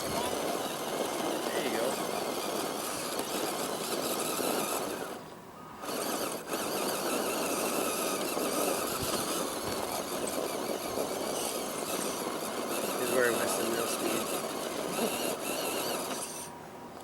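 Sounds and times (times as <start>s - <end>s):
electric motor and gears whining: 0.0s - 17.0s
tyres crunching: 0.0s - 17.0s.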